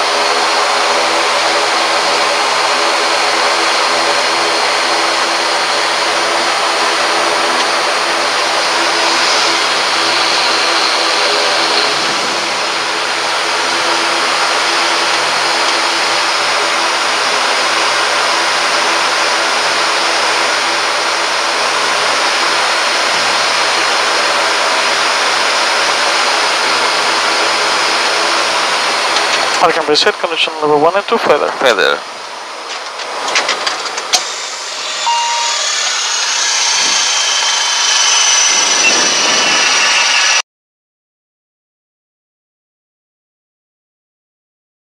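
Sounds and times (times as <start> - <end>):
turboprop engines droning: 0.0 - 40.4.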